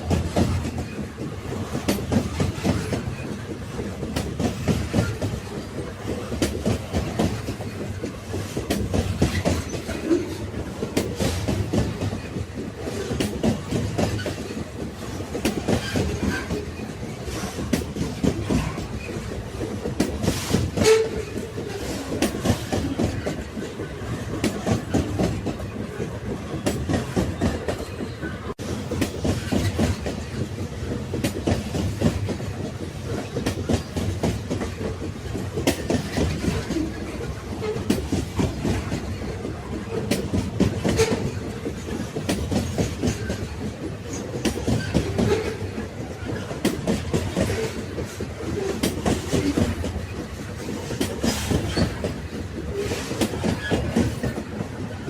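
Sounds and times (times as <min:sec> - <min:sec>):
railway wagons rumbling: 0:00.0 - 0:55.0
wheels clacking over rail joints: 0:00.0 - 0:55.0.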